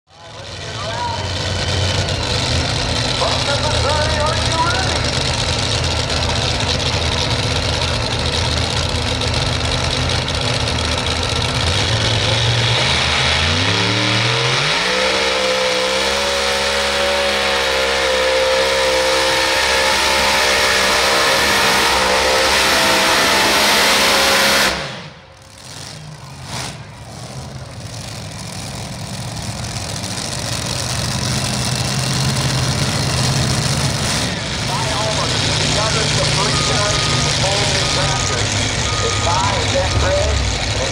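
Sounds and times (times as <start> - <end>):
tractor engines revving: 0.1 - 40.9.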